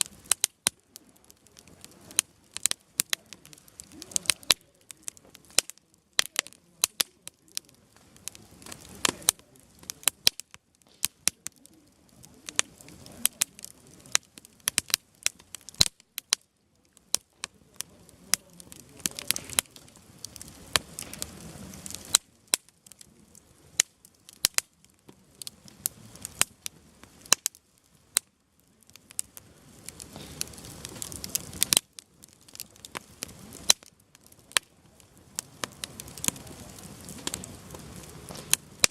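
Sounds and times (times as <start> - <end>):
campfire crackling and popping: 0.0 - 38.9
faint background noise: 0.0 - 38.9.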